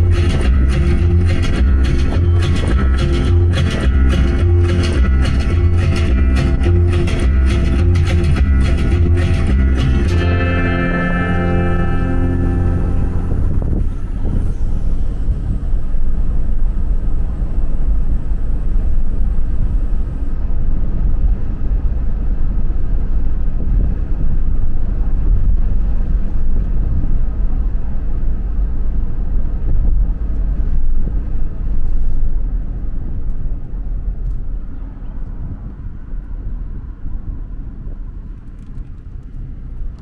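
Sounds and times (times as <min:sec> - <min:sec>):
car interior driving rumble: 0:00.0 - 0:40.0.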